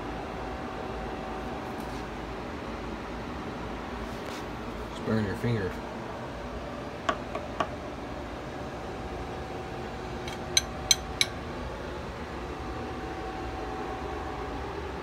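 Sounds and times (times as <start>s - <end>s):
fan-like hum: 0.0s - 15.0s.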